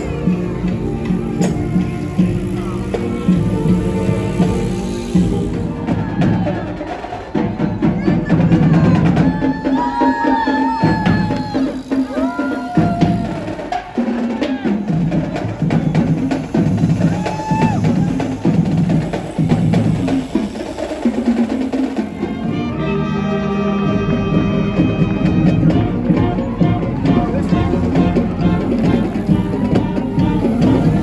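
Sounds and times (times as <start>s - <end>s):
music with drums and bass: 0.0s - 31.0s.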